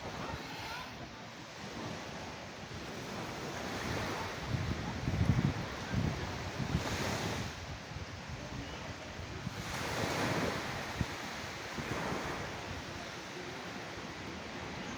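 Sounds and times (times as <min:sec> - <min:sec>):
sea waves breaking on shore: 0:00.0 - 0:14.9
wind buffeting microphone: 0:00.0 - 0:14.9.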